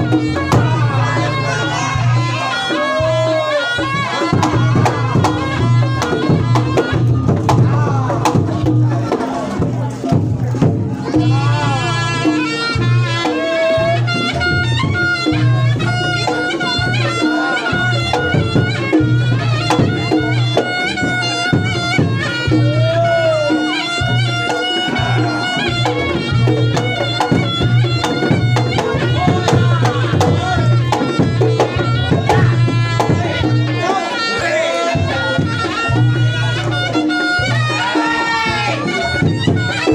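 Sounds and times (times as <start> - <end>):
shrill shawm melody: 0.0 - 10.0, 11.0 - 39.9
low drum beats: 0.0 - 39.9.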